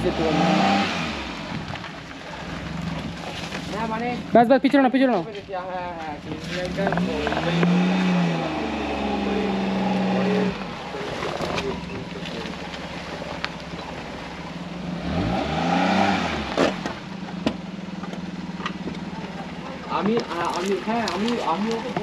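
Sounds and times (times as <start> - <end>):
vehicle engine revving: 0.0 - 4.4, 6.2 - 22.0.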